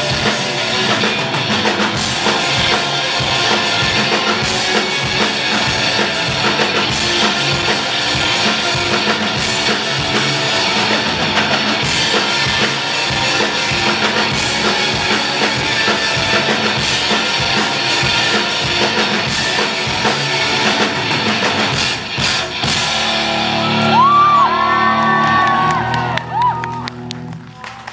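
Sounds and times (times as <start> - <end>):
drum kit: 0.0 - 27.4
electric guitar: 0.0 - 27.8.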